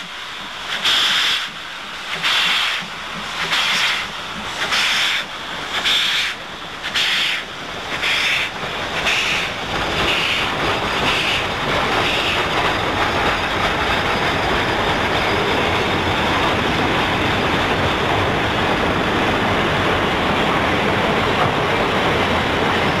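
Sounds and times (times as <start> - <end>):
freight cars rumbling on rails: 0.0 - 23.0
steam locomotive exhaust chuffs: 0.0 - 23.0.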